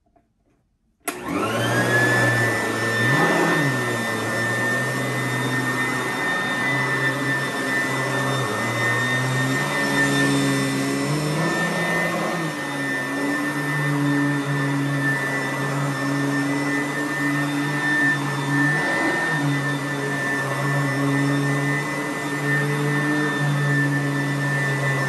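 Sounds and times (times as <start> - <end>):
vacuum cleaner motor whining: 1.1 - 25.0
vacuum cleaner on carpet hum: 1.1 - 25.0.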